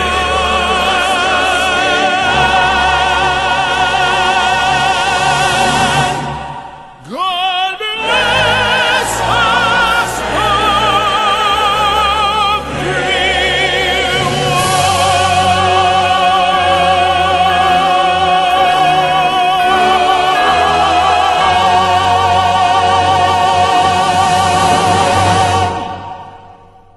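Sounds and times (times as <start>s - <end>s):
operatic singing: 0.0s - 26.9s.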